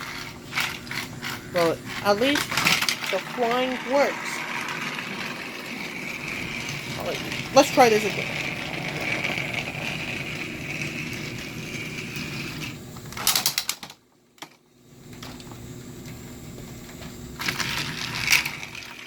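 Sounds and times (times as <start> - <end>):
toy train motor whine: 0.0 - 13.9, 17.4 - 19.0.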